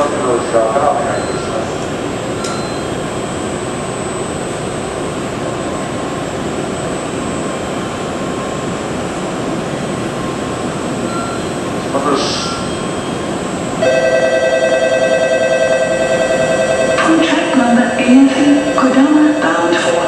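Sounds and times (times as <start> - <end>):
train cooling fans humming: 0.0 - 20.0.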